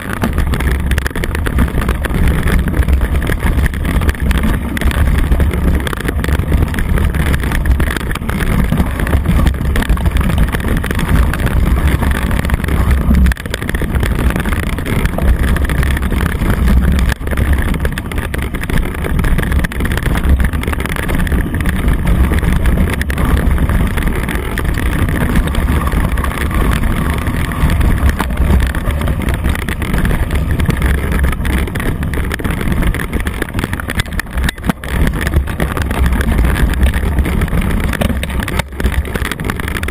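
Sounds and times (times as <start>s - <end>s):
bike tyres rumbling on dirt trail: 0.0s - 39.9s
wind buffeting microphone: 0.0s - 39.9s.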